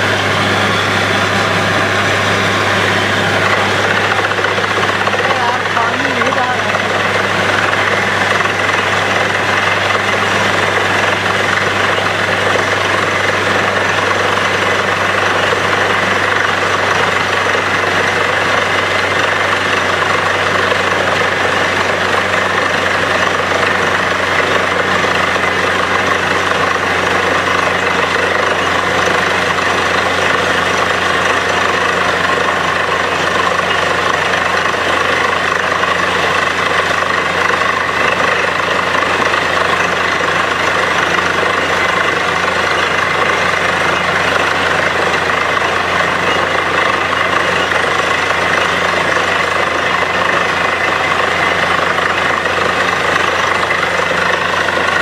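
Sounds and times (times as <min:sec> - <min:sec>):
drilling rig engine drone: 0:00.0 - 0:55.0.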